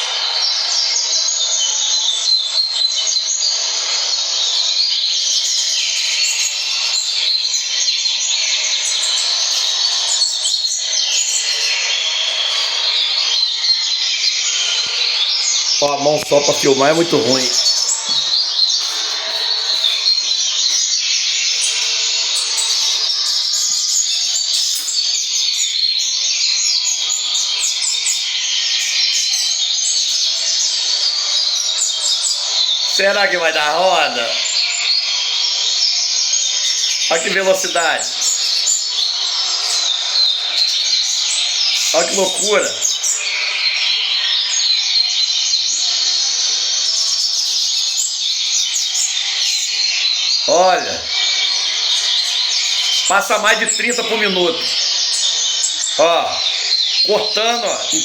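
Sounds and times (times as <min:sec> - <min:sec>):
birds singing chirping song: 0:00.0 - 0:58.0.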